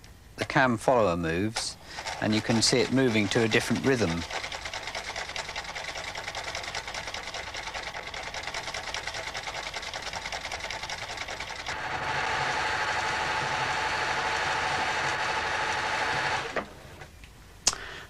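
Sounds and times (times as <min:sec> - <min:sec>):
mechanical sewing machine running: 0:01.4 - 0:17.0
electronic sewing machine: 0:01.6 - 0:17.0.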